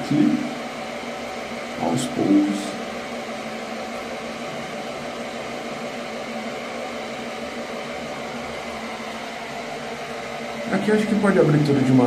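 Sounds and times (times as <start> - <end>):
pool pump humming: 0.0 - 12.0.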